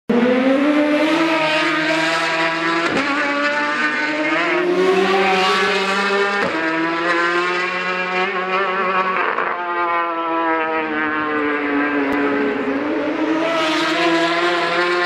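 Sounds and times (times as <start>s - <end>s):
racing motorcycle engine accelerating: 0.1s - 15.0s.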